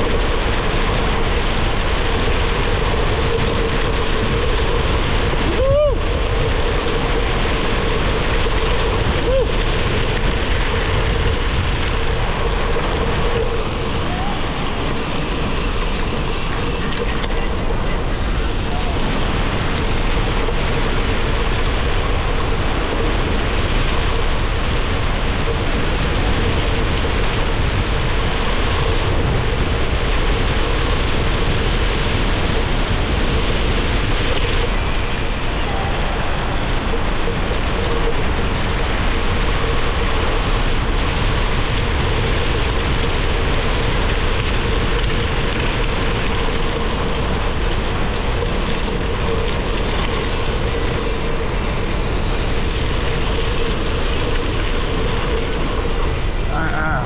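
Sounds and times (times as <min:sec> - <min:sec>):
bike tyres rolling on gravel: 0:00.0 - 0:57.0
steady hum: 0:00.0 - 0:57.0
wind on microphone: 0:00.0 - 0:57.0.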